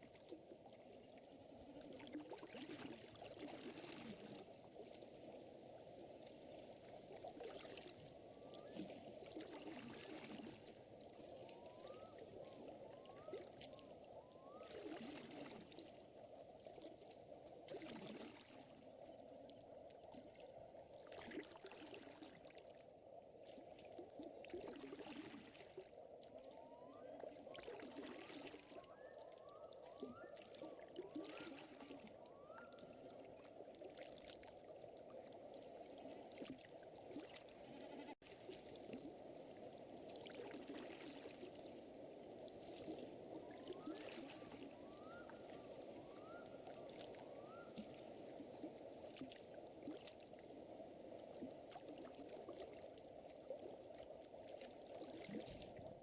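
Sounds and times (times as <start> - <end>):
water trickling and lapping: 0.0 - 56.0.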